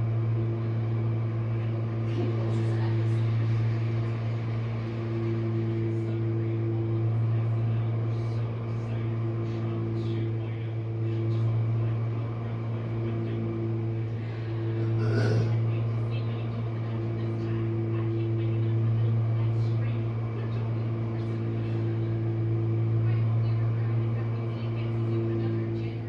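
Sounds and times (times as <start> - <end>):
dishwasher motor hum: 0.0 - 26.0.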